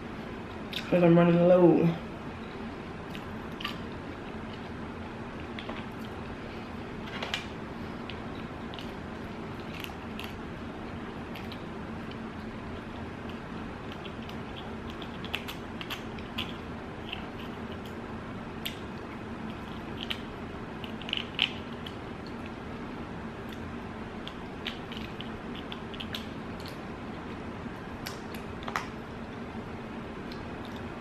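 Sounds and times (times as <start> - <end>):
low room hum: 0.0 - 31.0
chewing with crackles: 3.0 - 29.4, 30.2 - 31.0.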